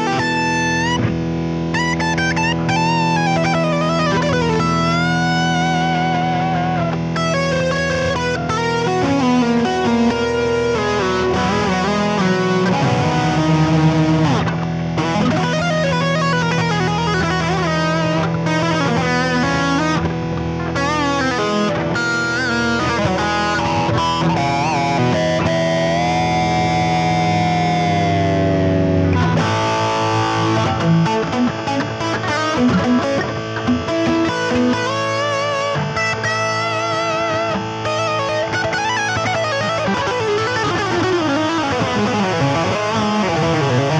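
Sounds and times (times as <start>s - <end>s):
distorted guitar chord drone: 0.0s - 43.9s
electric guitar lead with bends: 0.0s - 43.9s.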